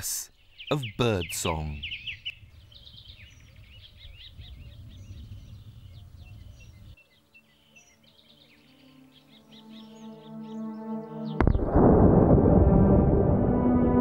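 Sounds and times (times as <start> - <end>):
birds chirping and twittering: 0.0 - 11.7.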